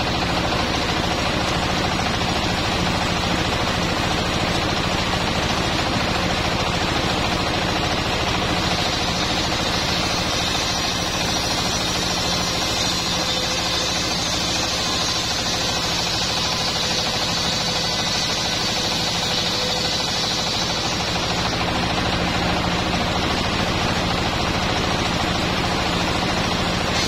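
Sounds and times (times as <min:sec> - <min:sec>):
circular saw cutting wood: 0:00.0 - 0:27.0
engine steady knocking: 0:00.0 - 0:27.0.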